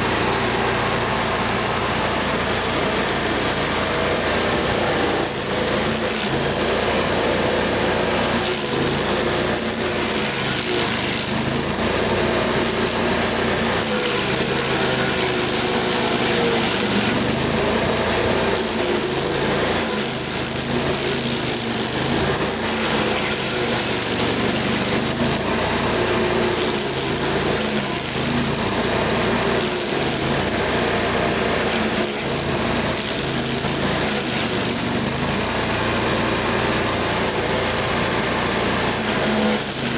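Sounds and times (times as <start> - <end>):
stump grinder grinding wood: 0.0 - 39.9.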